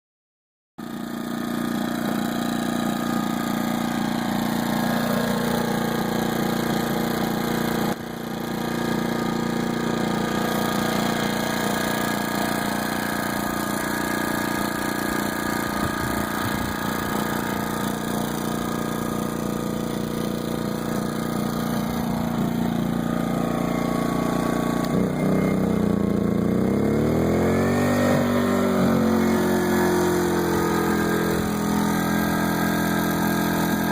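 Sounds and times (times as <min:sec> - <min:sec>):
inverter generator running: 0:00.8 - 0:33.9.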